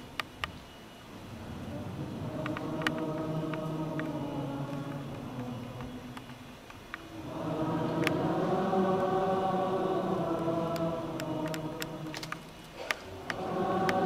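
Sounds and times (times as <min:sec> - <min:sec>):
choir singing held chords: 0:01.0 - 0:14.0.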